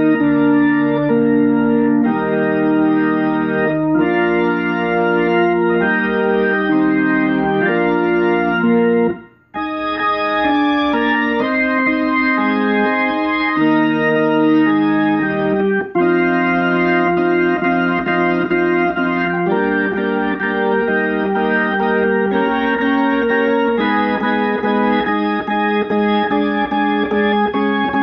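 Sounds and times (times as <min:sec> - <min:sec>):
organ playing sustained chords: 0:00.0 - 0:28.0.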